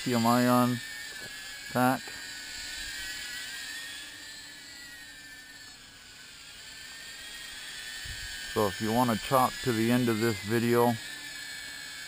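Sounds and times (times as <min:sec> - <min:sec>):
drone motors whirring: 0:00.0 - 0:12.0.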